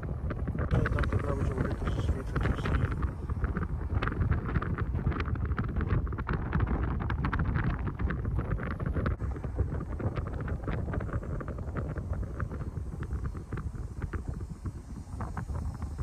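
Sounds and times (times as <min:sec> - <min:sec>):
vehicle rumble: 0:00.0 - 0:16.0
wind buffeting microphone: 0:00.0 - 0:16.0.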